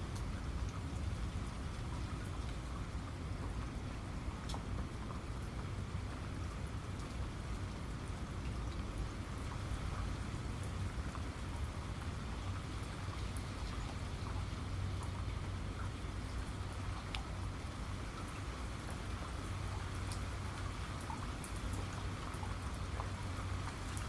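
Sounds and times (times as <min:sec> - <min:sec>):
raindrops ticking on a surface: 0:00.0 - 0:24.0
steady rain: 0:00.0 - 0:24.0.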